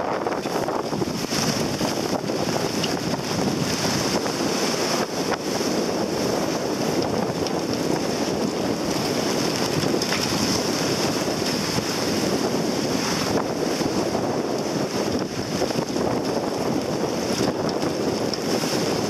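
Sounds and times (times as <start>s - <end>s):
choppy sea water splashing: 0.0s - 19.0s
wind on microphone: 0.0s - 19.0s.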